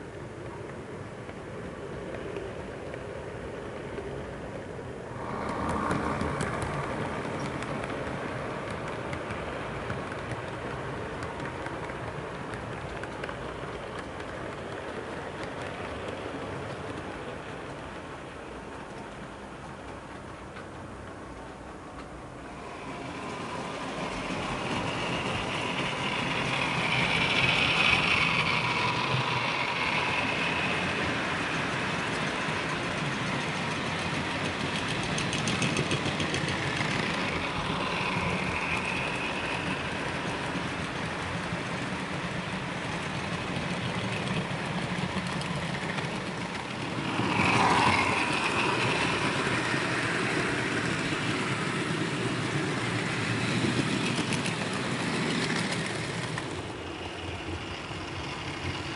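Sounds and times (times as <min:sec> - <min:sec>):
model locomotive engine: 0:00.0 - 0:58.9
train rolling on track: 0:00.0 - 0:58.9.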